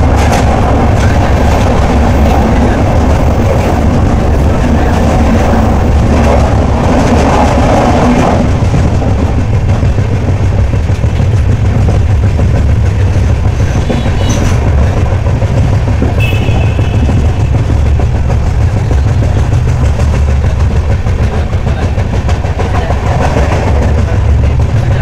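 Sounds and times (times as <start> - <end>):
train rumble and wheel noise: 0.0 - 25.0.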